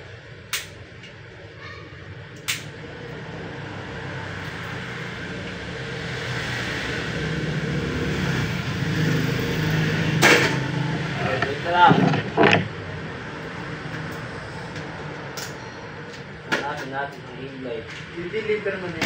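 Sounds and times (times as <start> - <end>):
vehicle rumble: 0.9 - 16.5.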